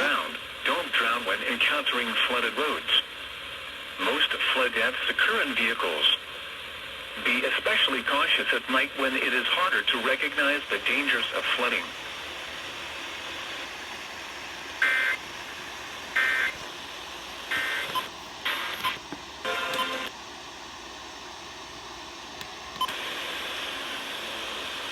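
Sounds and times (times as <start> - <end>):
radio hiss: 0.0 - 20.1, 20.9 - 24.9.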